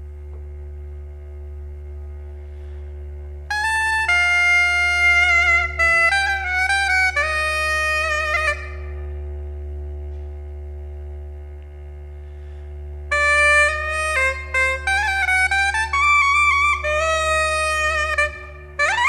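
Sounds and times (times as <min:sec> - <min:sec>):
steady drone: 0:00.0 - 0:19.0.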